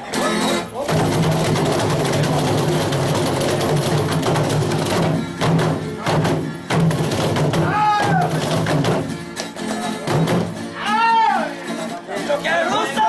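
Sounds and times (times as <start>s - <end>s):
guitar strumming: 0.0s - 13.0s.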